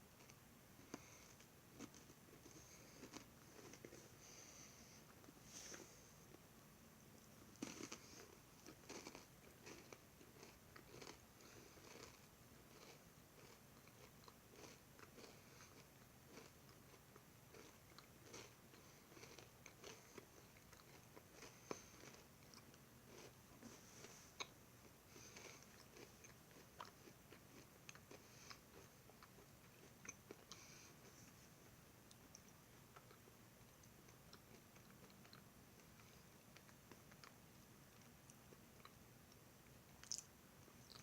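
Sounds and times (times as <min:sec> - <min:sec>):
chewing and crunching: 0:00.2 - 0:04.4, 0:07.5 - 0:23.4, 0:24.0 - 0:31.4, 0:32.1 - 0:41.0.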